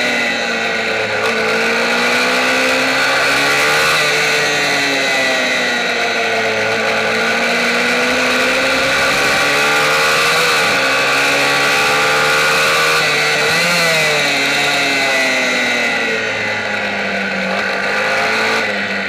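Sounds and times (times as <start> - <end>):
motorcycle engine at racing speed: 0.0 - 19.0.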